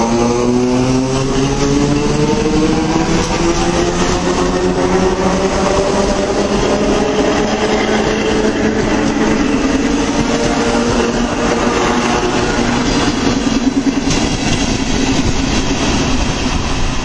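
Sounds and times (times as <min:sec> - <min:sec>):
commuter train passing: 0:00.0 - 0:17.0.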